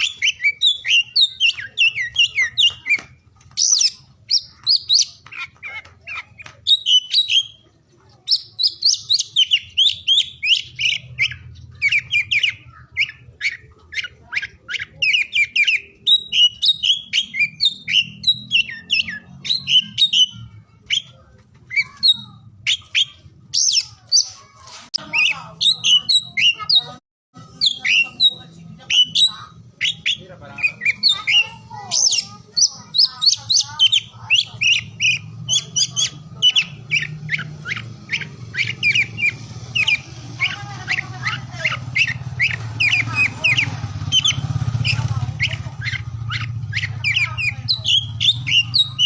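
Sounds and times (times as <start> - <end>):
bird singing chirps and whistles: 0.0 - 7.6, 8.2 - 49.0.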